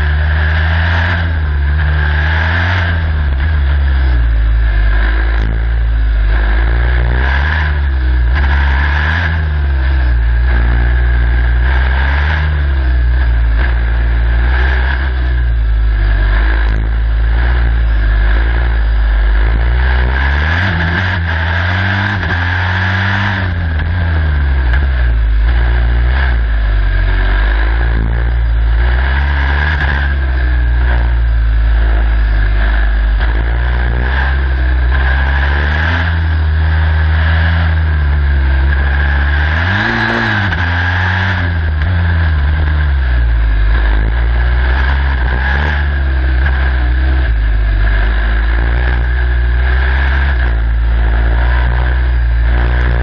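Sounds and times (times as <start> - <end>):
high whine: 0.0 - 53.0
race car engine revving: 0.0 - 53.0.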